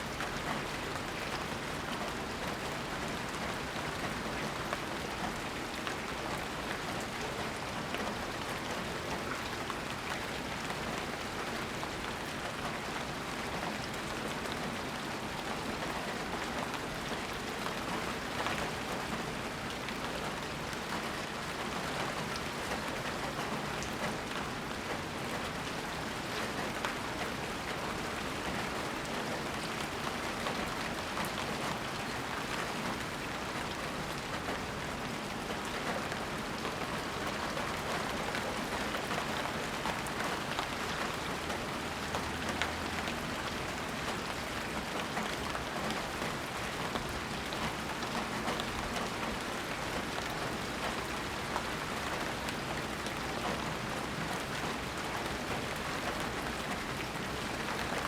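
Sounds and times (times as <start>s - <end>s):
raindrops pattering on surfaces: 0.0s - 58.0s
steady rainfall: 0.0s - 58.0s.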